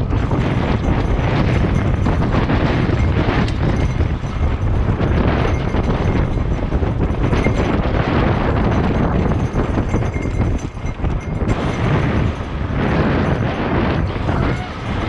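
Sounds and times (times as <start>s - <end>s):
bike rattling over rocky trail: 0.0s - 14.7s
wind buffeting microphone: 0.0s - 15.0s.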